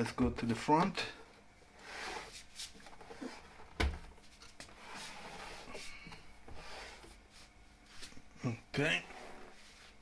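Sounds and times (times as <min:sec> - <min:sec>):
rubbing and shuffling on tiles: 0:01.7 - 0:10.0.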